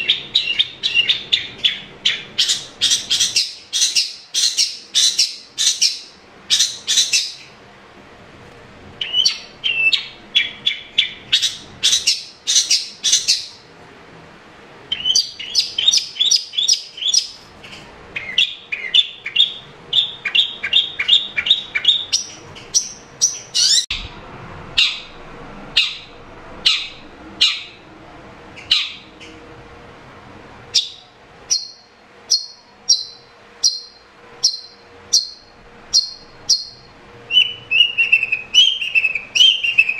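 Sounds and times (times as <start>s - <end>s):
bird chirping sharply: 0.0s - 7.6s, 9.0s - 13.7s, 14.9s - 24.1s, 24.8s - 27.8s, 28.6s - 29.4s, 30.7s - 39.9s.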